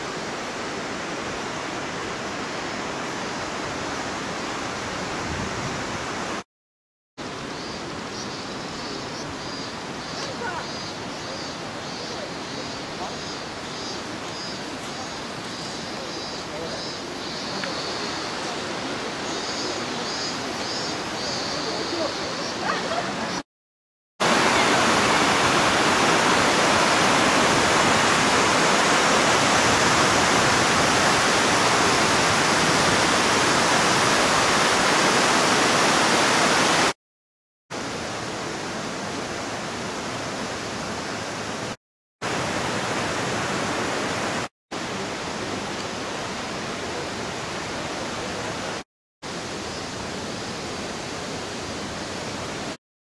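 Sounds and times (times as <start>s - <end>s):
falling water rushing: 0.0s - 6.4s, 7.2s - 23.4s, 24.2s - 37.0s, 37.7s - 52.8s.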